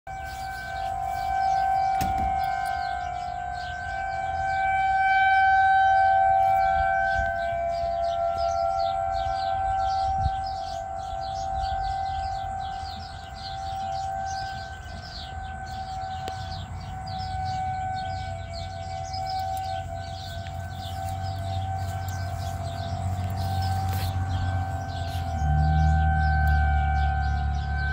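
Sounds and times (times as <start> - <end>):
warning siren steady tone: 0.0 - 27.9.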